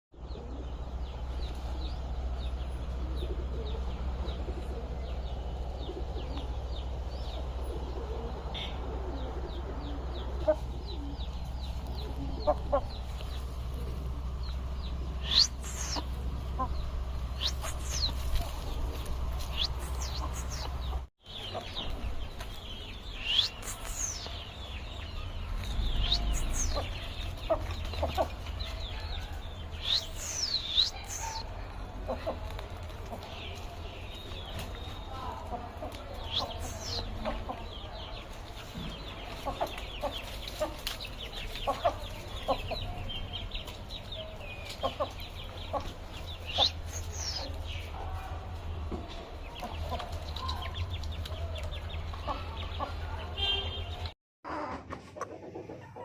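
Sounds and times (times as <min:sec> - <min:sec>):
small birds chirping: 0:00.1 - 0:54.2
steady low rumble: 0:00.2 - 0:48.8
chickens clucking: 0:00.2 - 0:56.0.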